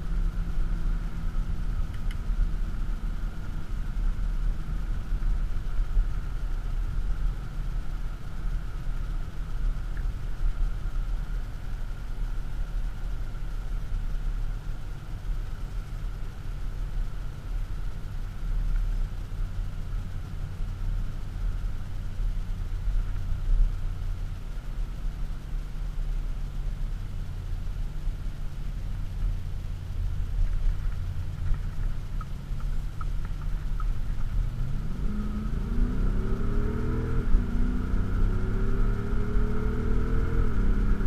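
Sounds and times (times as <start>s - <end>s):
car engine drone inside cabin: 0.0s - 41.0s
faint steady whine: 0.0s - 41.0s.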